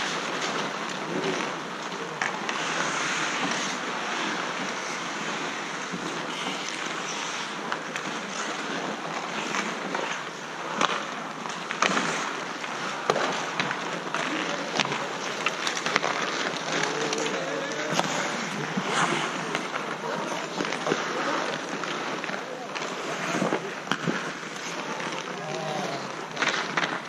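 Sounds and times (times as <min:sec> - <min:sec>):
hockey sticks clacking: 0:00.0 - 0:27.0
skate blades scraping ice: 0:00.0 - 0:27.0.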